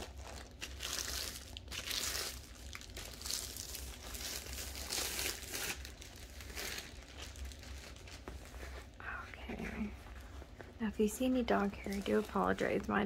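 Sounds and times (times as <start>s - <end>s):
plastic wrap crinkling and tearing: 0.0s - 13.0s.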